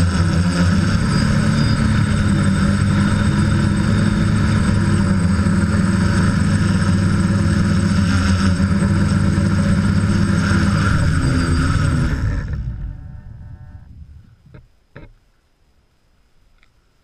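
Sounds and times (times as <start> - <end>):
drone motors buzzing: 0.0 - 15.1.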